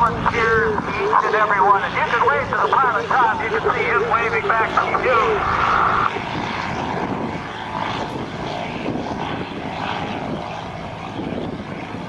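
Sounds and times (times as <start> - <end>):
propeller plane engine in flight: 0.0 - 12.0.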